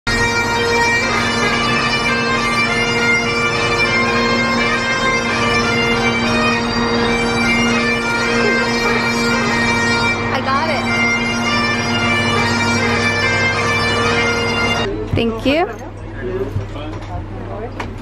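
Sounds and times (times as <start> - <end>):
bagpipes playing a tune: 0.1 - 15.7.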